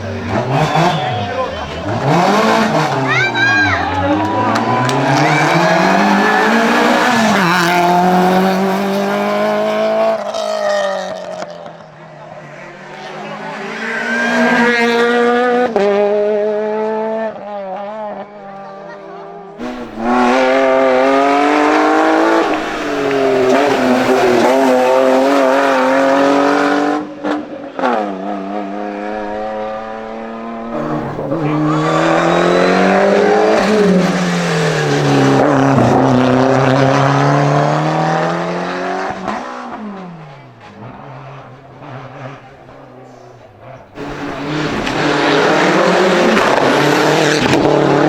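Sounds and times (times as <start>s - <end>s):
race cars revving past: 0.0s - 48.0s.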